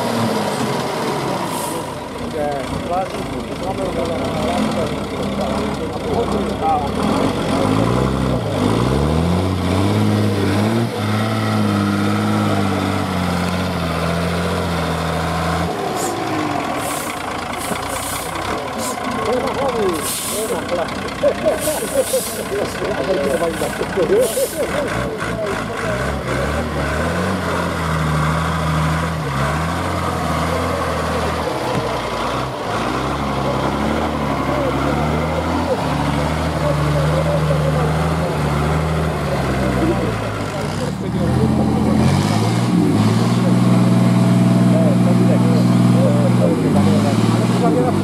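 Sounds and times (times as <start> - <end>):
diesel truck engine revving: 0.0 - 48.0.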